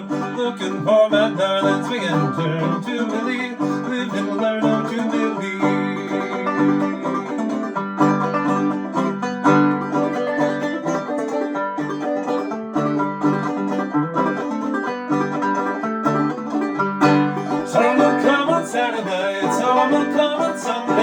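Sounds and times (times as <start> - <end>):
banjo picking: 0.0 - 21.0.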